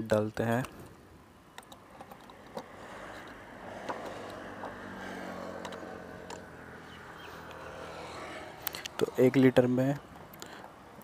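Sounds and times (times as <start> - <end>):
vehicle engine humming: 1.7 - 10.6.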